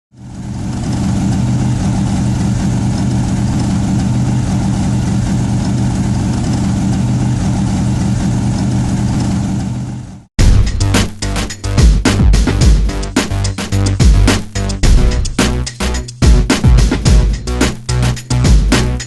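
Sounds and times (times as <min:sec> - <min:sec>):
car engine idling: 0:00.2 - 0:19.0.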